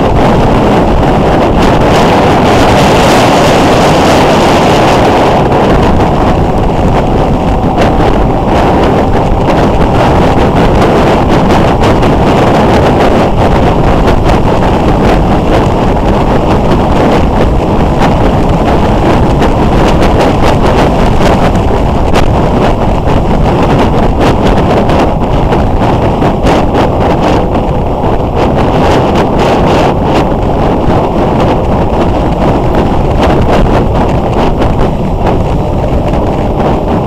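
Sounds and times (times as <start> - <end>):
motorcycle engine running: 0.0 - 37.0
wind buffeting microphone: 0.0 - 37.0.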